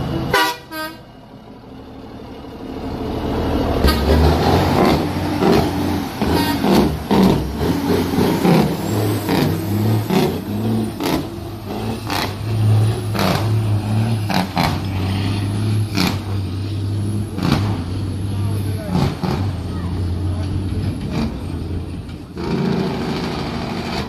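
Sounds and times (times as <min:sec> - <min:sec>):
diesel truck engine accelerating: 0:00.0 - 0:24.0.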